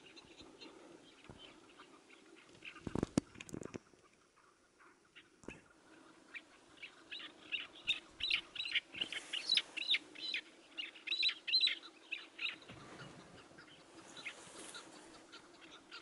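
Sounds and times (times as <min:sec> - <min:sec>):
partridge calling: 0:00.0 - 0:16.0.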